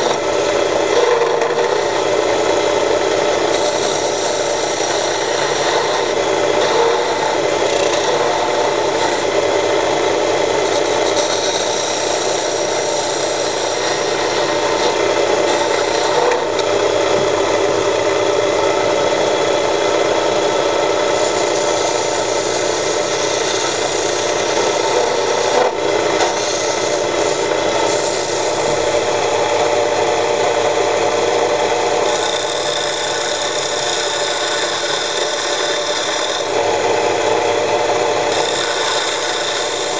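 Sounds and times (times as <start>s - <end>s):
lathe motor hum: 0.0s - 39.9s
lathe tool scraping wood: 0.0s - 39.9s.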